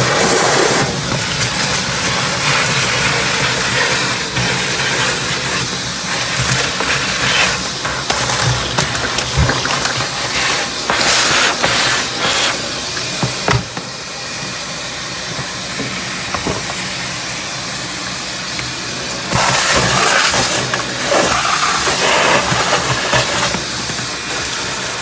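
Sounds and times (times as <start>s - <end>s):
shop vac sucking water: 0.0s - 25.0s.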